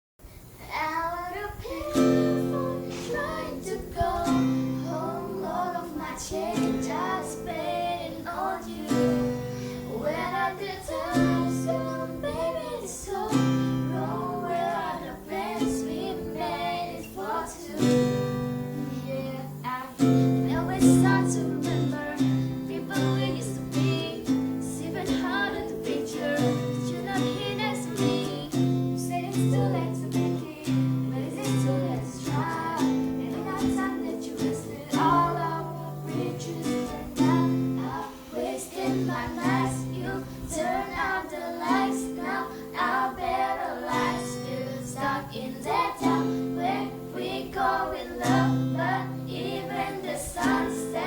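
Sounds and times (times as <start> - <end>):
girls singing: 0.6 - 51.0
strummed guitar chords: 2.0 - 51.0.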